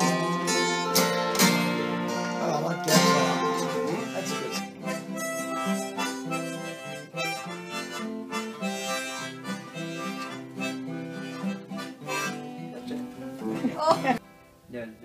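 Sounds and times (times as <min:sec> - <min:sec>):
harmonica playing a tune: 0:00.0 - 0:14.2.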